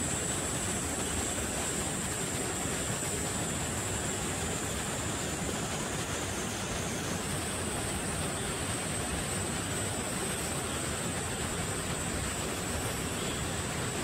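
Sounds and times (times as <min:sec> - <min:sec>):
cicadas buzzing: 0:00.0 - 0:14.0
forest rushing noise: 0:00.0 - 0:14.0.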